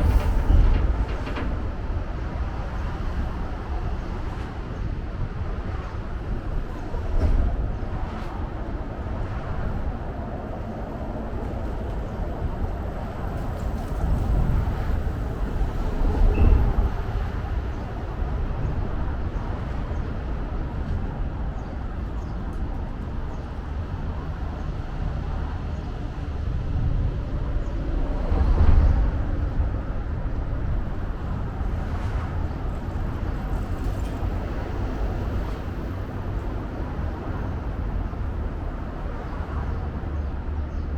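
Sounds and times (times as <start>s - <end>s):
steady traffic noise: 0.0s - 40.9s.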